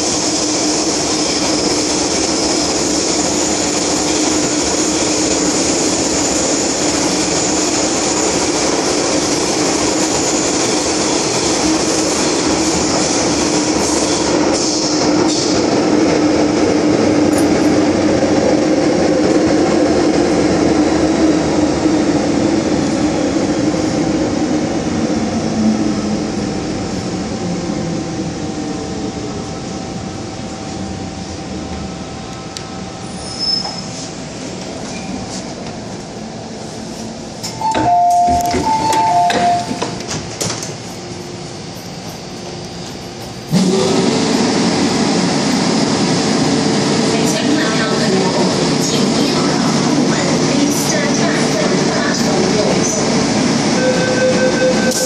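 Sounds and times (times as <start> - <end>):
falling whine of slowing train: 0.0 - 55.0
train wheels rumbling: 0.0 - 55.0.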